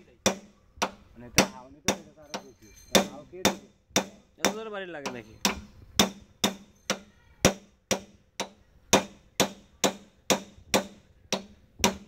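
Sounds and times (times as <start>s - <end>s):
hammer tapping steel bearing race: 0.3s - 12.0s.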